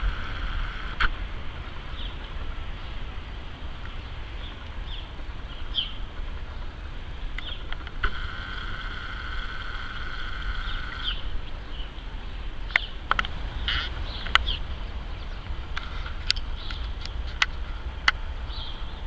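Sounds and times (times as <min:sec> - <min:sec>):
birds chirping: 0:00.0 - 0:19.0
low steady rumble: 0:00.0 - 0:19.0.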